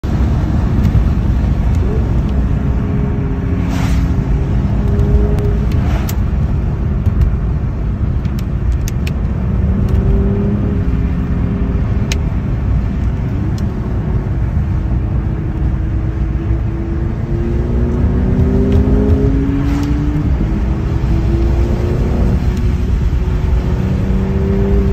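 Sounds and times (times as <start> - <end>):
car engine in cabin: 0.0 - 24.9
tyres on wet road: 0.0 - 24.9.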